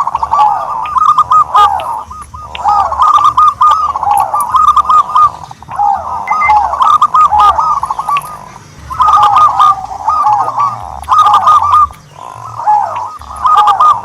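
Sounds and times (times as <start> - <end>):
turtledove cooing: 0.0 - 14.0.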